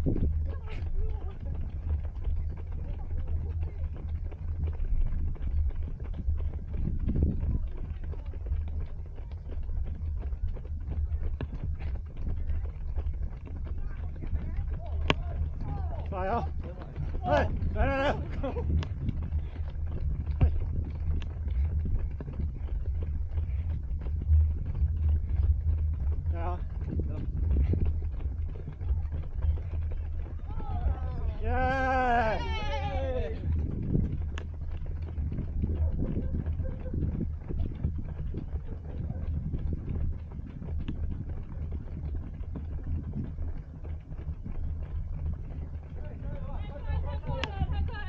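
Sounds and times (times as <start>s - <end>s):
low wind rumble: 0.0s - 48.0s
runner's footfalls: 0.0s - 48.0s.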